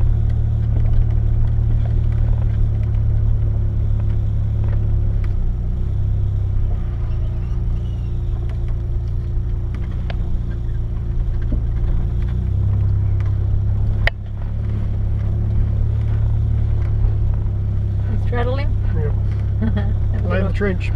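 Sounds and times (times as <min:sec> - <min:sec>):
vehicle engine running at low revs: 0:00.0 - 0:20.9.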